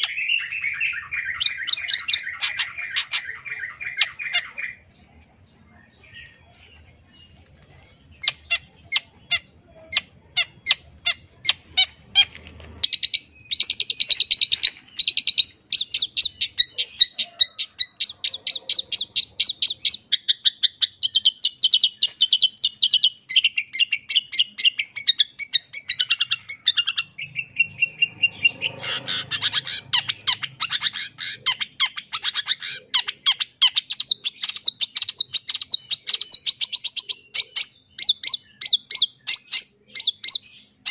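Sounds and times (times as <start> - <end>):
shrike singing: 0.0 - 40.9.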